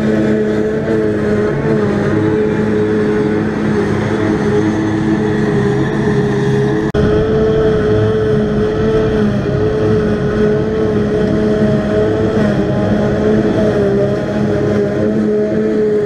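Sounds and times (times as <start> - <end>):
forage harvester engine drone: 0.0 - 16.0.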